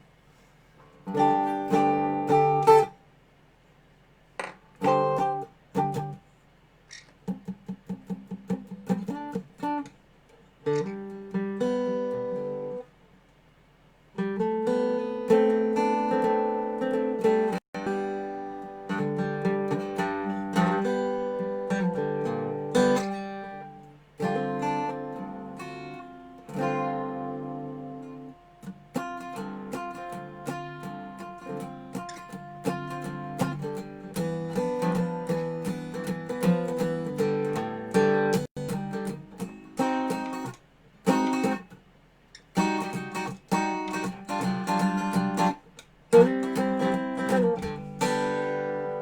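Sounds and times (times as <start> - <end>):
resonator guitar bluesy playing: 1.0 - 3.0, 4.8 - 6.2, 7.2 - 9.9, 10.6 - 12.8, 14.2 - 41.8, 42.4 - 49.0.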